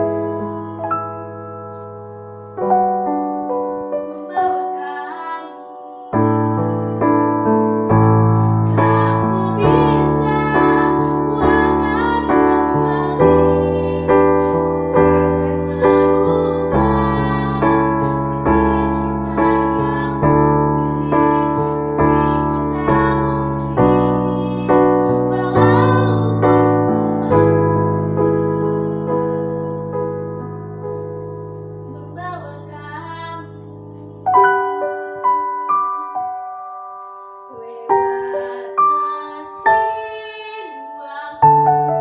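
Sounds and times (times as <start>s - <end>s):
girl singing: 0.0s - 1.8s, 3.9s - 30.5s, 31.8s - 35.2s, 37.5s - 41.9s
piano chords: 0.0s - 42.0s.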